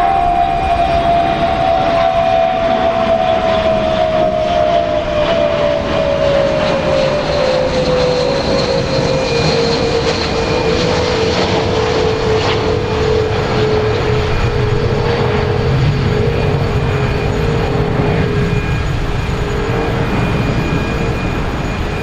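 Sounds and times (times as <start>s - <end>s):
jet engines overhead: 0.0s - 22.0s.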